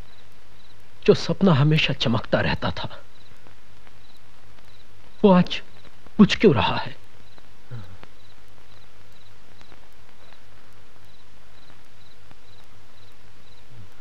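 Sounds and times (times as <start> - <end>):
cricket chirping: 0.0 - 14.0
steady low hum: 0.0 - 14.0.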